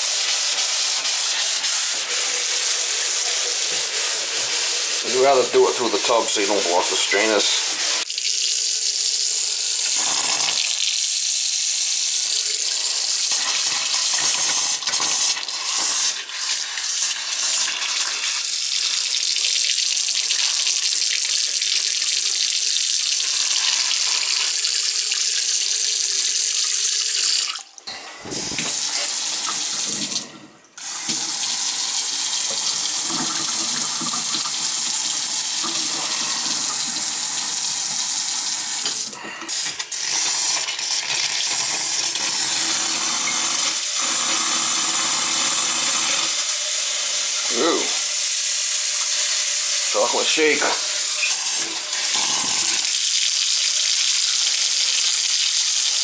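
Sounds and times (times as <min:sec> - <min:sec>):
faucet water running into sink: 0:00.0 - 0:56.0.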